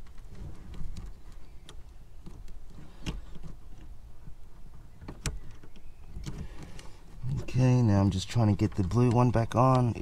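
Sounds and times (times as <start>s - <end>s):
small plastic clicks and knocks: 0.0s - 4.0s, 4.7s - 10.0s
rustling handling noise: 0.0s - 10.0s.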